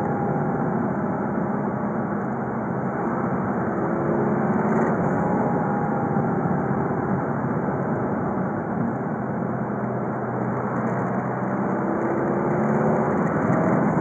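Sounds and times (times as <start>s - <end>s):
diesel engine running: 0.0s - 14.0s
road noise: 0.0s - 14.0s.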